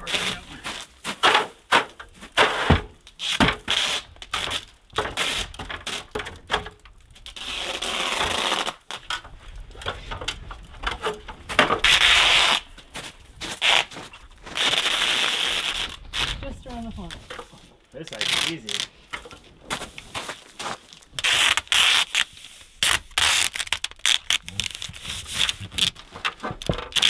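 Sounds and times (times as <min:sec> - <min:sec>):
tape rasping: 0:00.0 - 0:27.0
tape scraping and rustling: 0:00.0 - 0:27.0.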